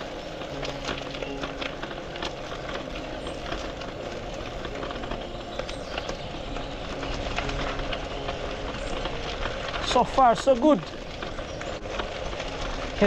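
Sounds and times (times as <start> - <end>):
bike rattling: 0.0 - 13.0
tyres crunching on gravel: 0.0 - 13.0.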